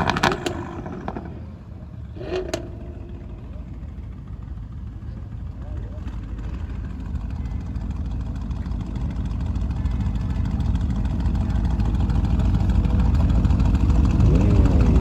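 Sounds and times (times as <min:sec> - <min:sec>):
car engine deep rumble: 0:00.0 - 0:15.0.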